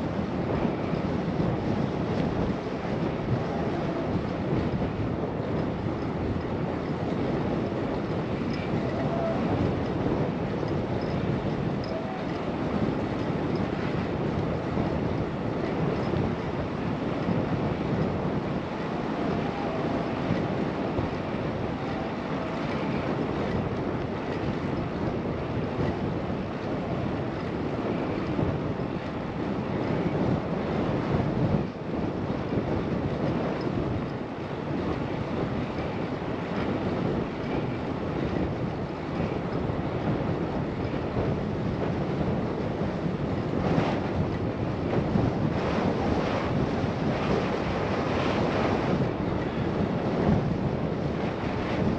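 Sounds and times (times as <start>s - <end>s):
wind rushing on microphone: 0.0s - 51.9s.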